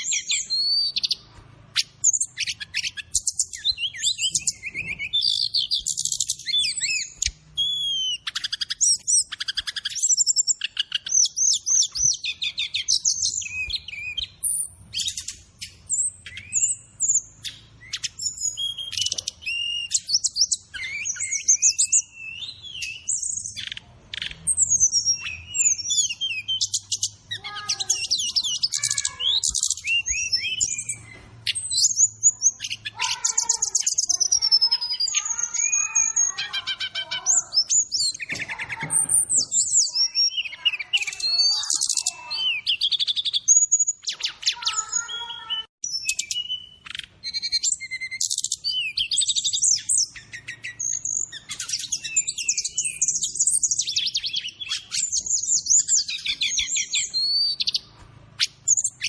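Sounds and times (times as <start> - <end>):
bird song with trills: 0.0 - 59.0.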